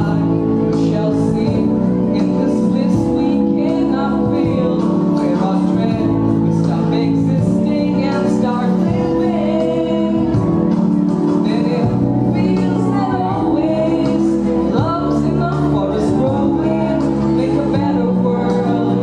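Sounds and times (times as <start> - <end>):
vocal group singing in harmony: 0.0 - 19.0.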